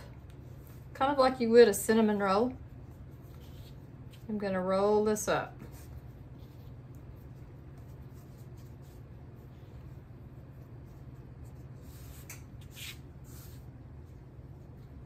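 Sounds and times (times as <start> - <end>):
hands rubbing bread dough: 0.0 - 4.4, 5.4 - 15.0.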